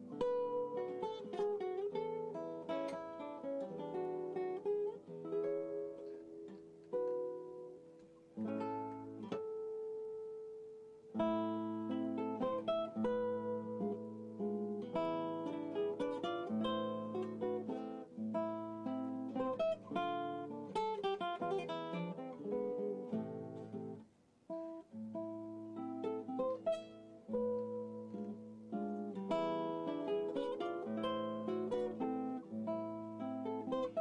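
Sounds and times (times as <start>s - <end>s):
acoustic guitar music: 0.0s - 34.0s.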